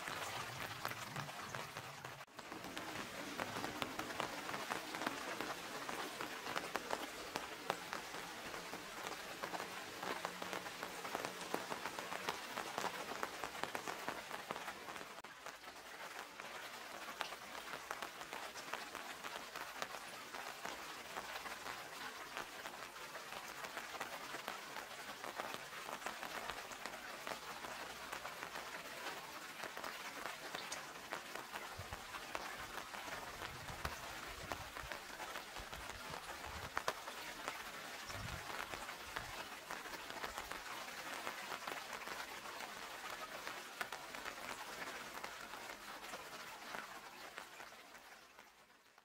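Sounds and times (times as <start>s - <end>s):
steady rain with ticking drops: 0.0s - 49.0s.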